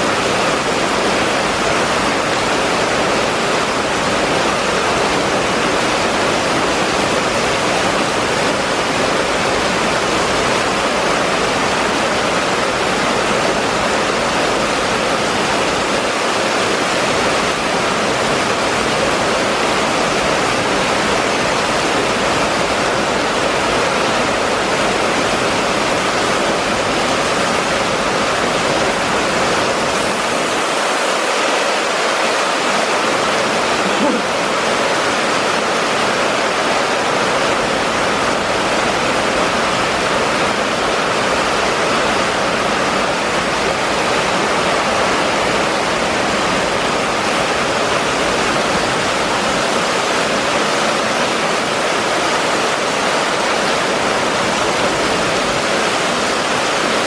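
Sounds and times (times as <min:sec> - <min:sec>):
heavy rain on a street: 0:00.0 - 0:57.0.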